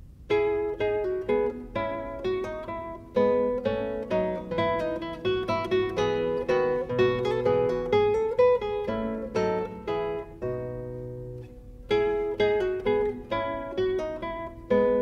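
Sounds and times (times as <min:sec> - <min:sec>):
acoustic guitar picking melody: 0:00.0 - 0:15.0.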